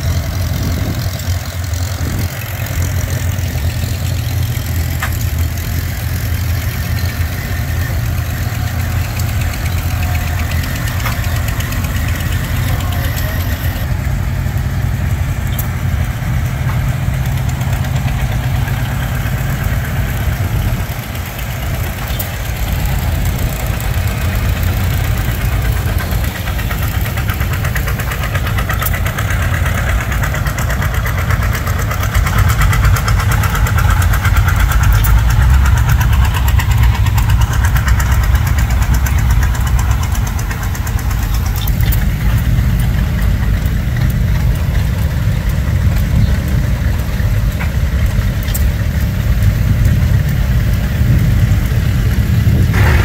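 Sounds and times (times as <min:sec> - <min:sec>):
tractor engines driving past: 0:00.0 - 0:53.0.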